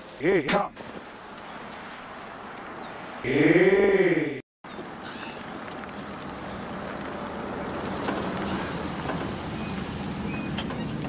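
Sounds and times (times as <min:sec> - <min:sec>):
tyre noise on road: 0:00.0 - 0:11.0.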